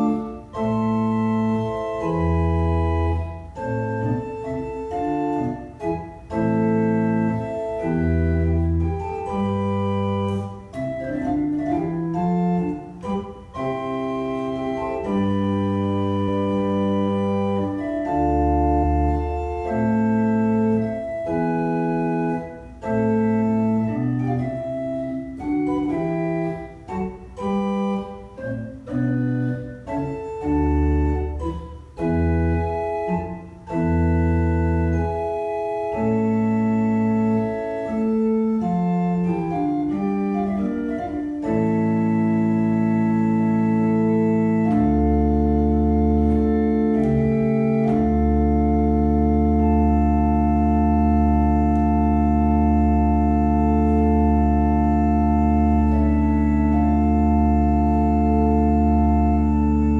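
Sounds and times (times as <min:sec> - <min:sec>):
pipe organ playing baroque music: 0:00.0 - 0:59.9.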